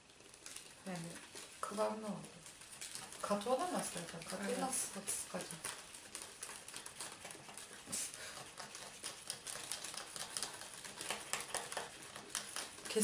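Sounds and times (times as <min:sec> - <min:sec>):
wrappers crinkling: 0:00.0 - 0:13.0.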